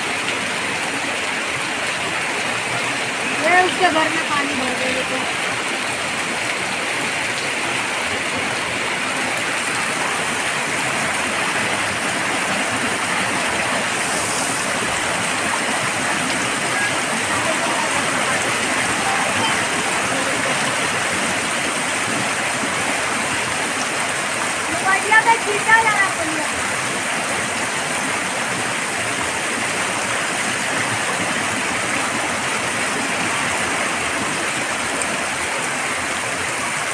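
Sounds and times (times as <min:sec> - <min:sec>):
floodwater rushing: 0:00.0 - 0:36.9
heavy rain on standing water: 0:00.0 - 0:36.9.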